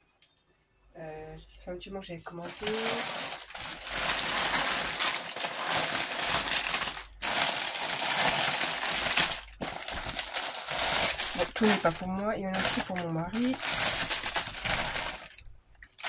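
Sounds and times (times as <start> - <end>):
plastic bags crinkling: 2.3 - 16.0.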